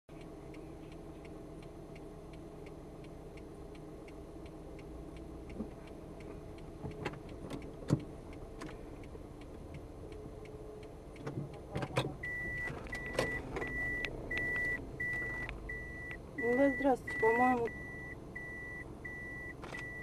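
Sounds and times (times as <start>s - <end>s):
indicator ticking: 0.1s - 20.0s.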